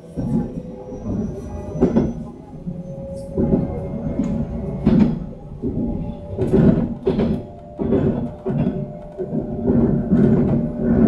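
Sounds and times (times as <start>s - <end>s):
passengers talking: 0.0s - 11.0s
train rumbling: 0.0s - 11.0s.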